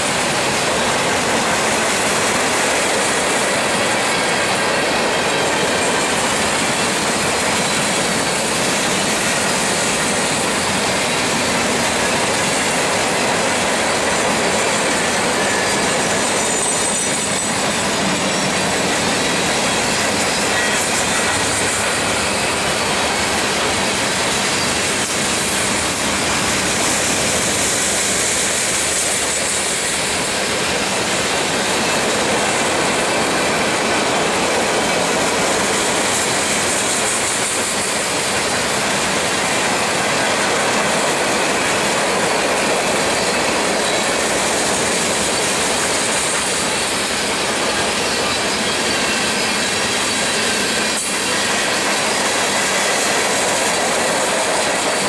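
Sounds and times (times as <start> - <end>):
train wheels rattling on track: 0.0 - 55.0.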